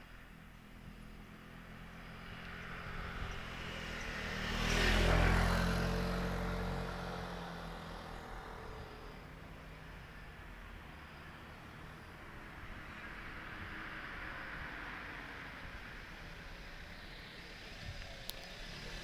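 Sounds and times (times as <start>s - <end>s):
low vehicle hum: 0.0s - 19.0s
passing vehicle engine and tyres: 0.0s - 19.0s.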